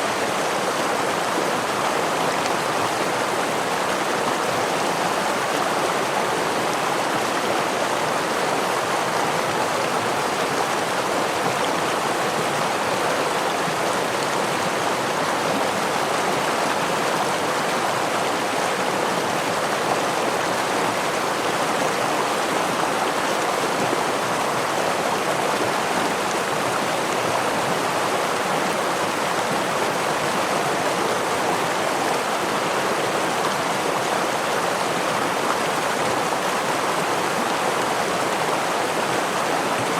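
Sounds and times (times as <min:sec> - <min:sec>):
stream flowing over waterfall: 0:00.0 - 0:39.9.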